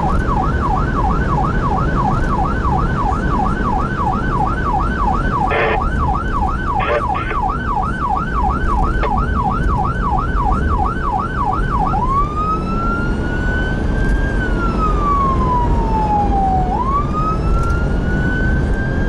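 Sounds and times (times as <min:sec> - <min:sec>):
engine and road rumble: 0:00.0 - 0:19.0
electronic siren yelping and wailing: 0:00.4 - 0:19.0.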